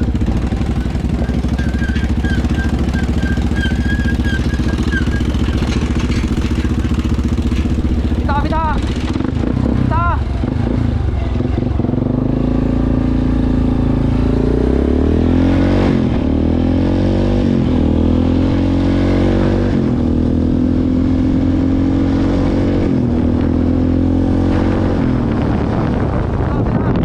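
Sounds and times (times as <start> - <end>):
atv engine revving: 0.0 - 27.0.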